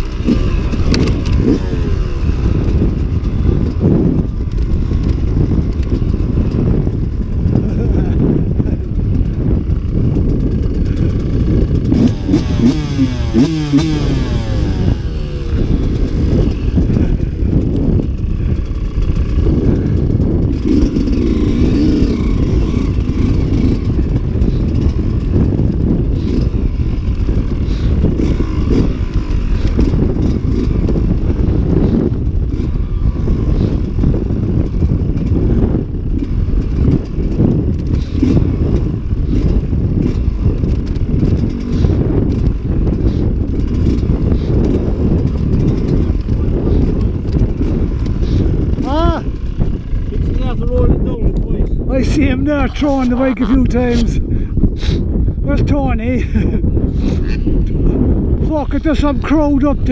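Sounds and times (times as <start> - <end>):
low rumble and rattle: 0.0 - 59.9
off-road motorcycle engine revving: 0.0 - 59.9.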